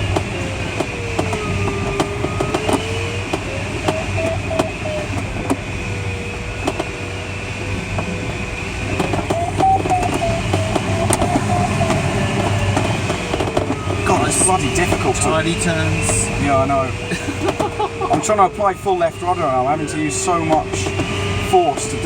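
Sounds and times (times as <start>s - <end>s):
electronic variometer tone: 0.0s - 6.8s, 7.6s - 22.0s
airflow rushing over cockpit: 0.0s - 22.0s.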